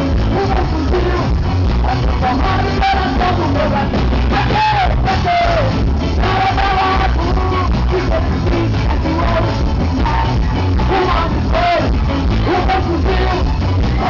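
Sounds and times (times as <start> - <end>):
live rock band playing: 0.0 - 14.0
person singing: 0.0 - 14.0
strong bass line: 0.0 - 14.0.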